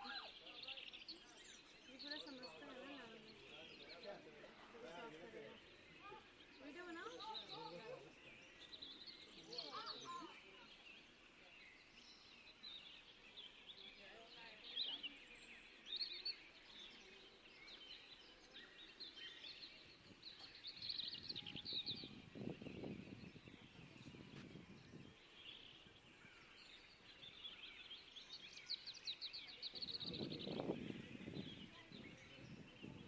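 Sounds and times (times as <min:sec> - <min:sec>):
small birds twittering: 0:00.0 - 0:33.0.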